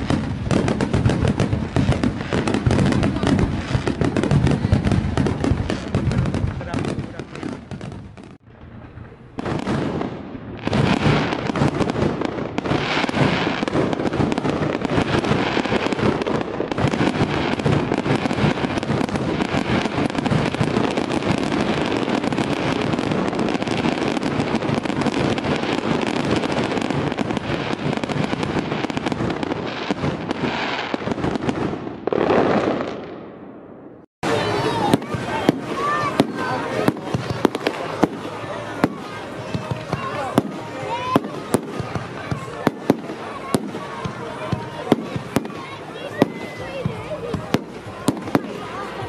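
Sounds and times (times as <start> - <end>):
fireworks bursting: 0.0 - 49.0.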